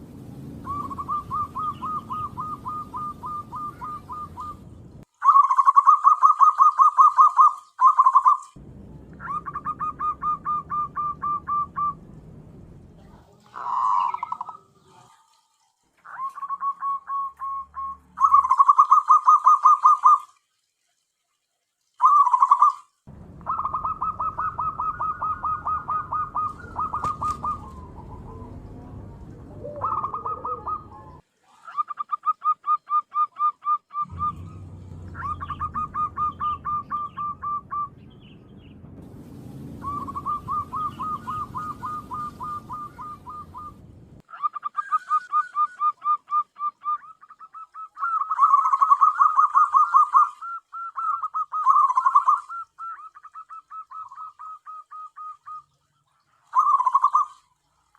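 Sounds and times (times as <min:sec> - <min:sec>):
dove cooing: 0:00.6 - 0:08.4, 0:09.1 - 0:12.2, 0:13.1 - 0:15.3, 0:16.0 - 0:20.2, 0:23.4 - 0:38.0, 0:39.8 - 0:55.6, 0:56.4 - 0:57.4.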